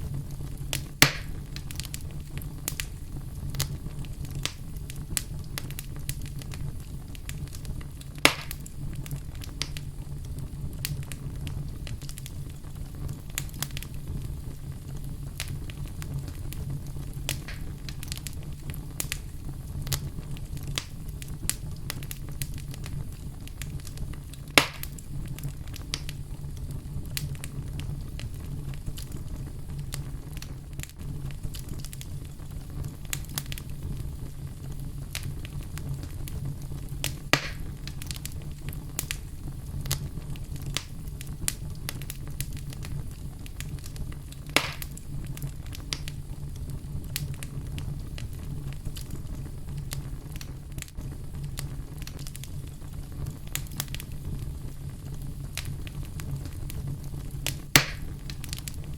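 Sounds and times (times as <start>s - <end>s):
fire crackling in fireplace: 0.0s - 58.9s
loud fire pops: 0.0s - 58.9s.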